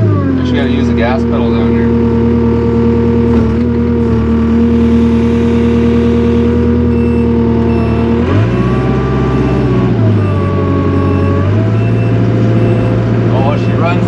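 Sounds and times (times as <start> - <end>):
loud diesel engine drone: 0.0 - 14.0.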